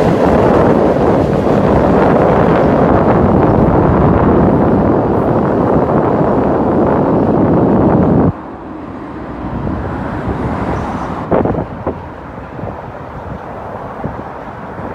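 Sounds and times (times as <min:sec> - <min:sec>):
road traffic: 0:00.0 - 0:14.9
wind on microphone: 0:00.0 - 0:14.9.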